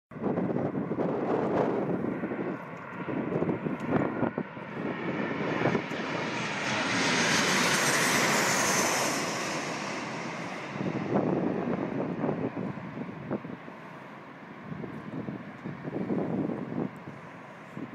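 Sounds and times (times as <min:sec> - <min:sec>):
wind buffeting microphone: 0:00.1 - 0:17.9
jet airliner engines roaring: 0:00.2 - 0:17.9.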